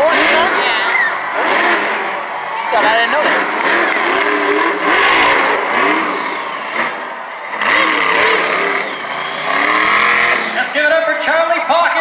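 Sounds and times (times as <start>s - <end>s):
truck engine revving hard: 0.0s - 11.3s.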